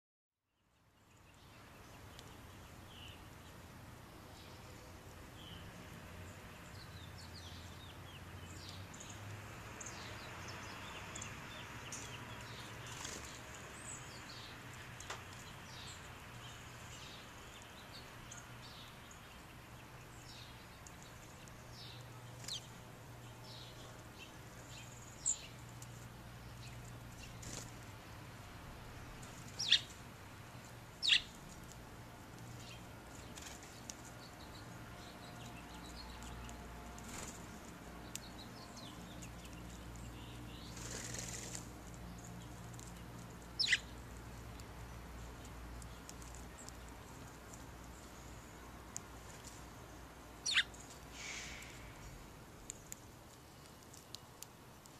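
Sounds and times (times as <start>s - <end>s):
sparrows chirping: 0.6s - 54.9s.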